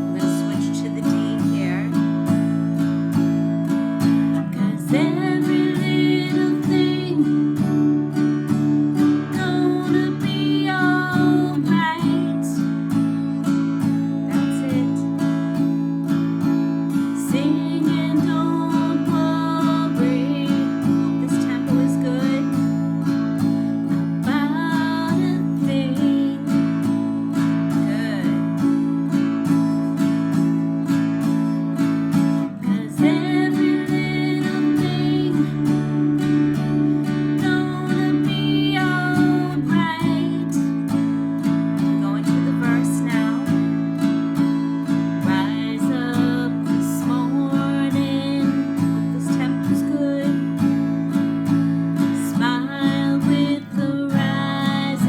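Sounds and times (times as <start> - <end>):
acoustic guitar strumming: 0.0 - 55.0
woman singing: 0.0 - 55.0.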